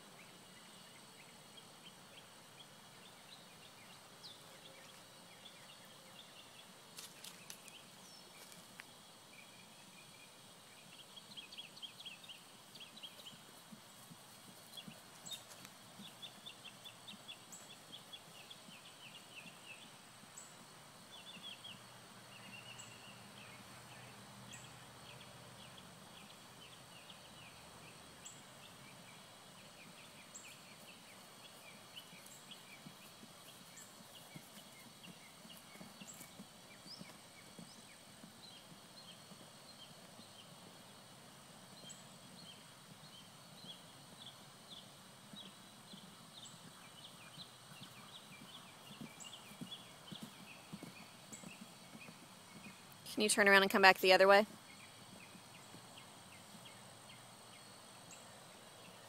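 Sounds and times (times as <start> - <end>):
hoofbeats on grass: 3.2 - 58.2.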